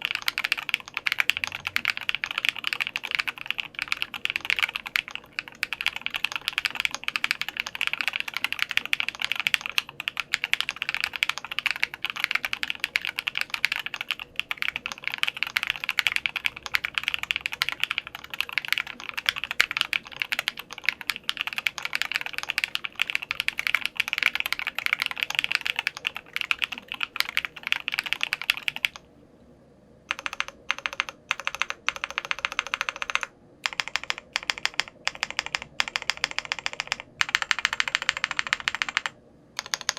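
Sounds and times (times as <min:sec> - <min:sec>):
mechanical keyboard typing: 0:00.0 - 0:29.0, 0:30.1 - 0:39.9.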